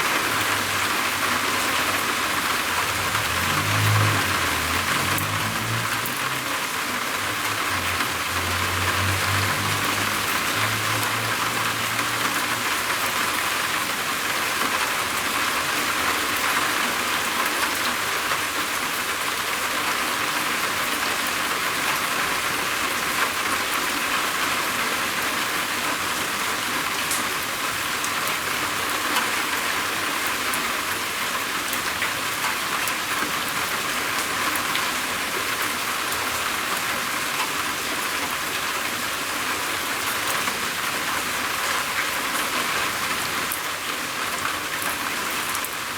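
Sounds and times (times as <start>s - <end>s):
rain falling on a roof: 0.0s - 45.9s.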